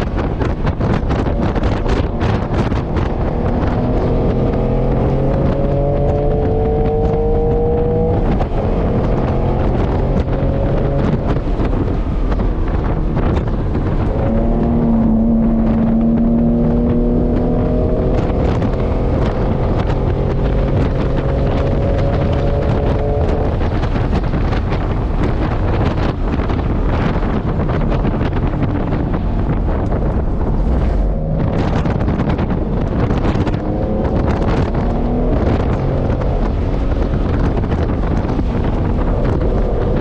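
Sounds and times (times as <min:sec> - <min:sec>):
sports car engine accelerating: 0:00.0 - 0:40.0.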